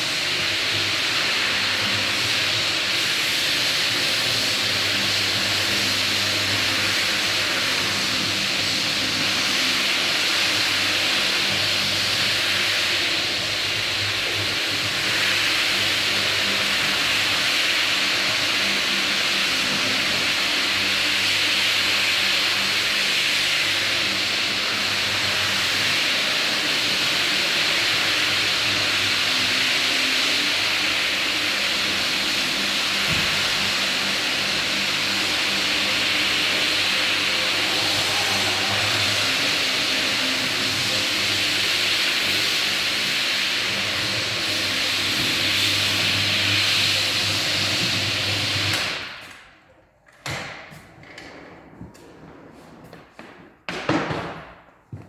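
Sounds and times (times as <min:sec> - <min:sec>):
abrasive hissing on wood: 0:00.0 - 0:49.2
floor buffer motor hum: 0:00.0 - 0:55.0.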